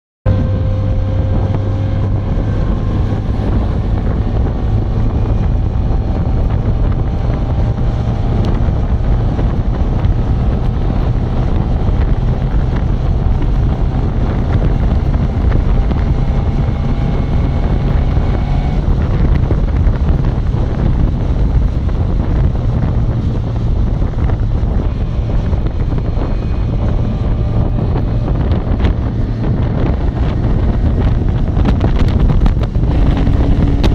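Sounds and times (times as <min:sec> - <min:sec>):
car engine drone: 0:00.3 - 0:33.9
wind rush on microphone: 0:00.3 - 0:33.9.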